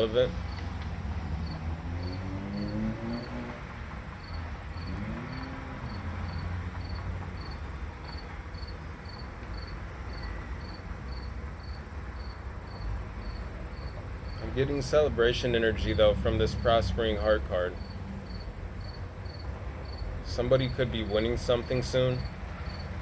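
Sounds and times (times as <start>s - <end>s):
cricket chirping: 0.3s - 14.7s, 17.8s - 20.8s, 21.6s - 23.0s.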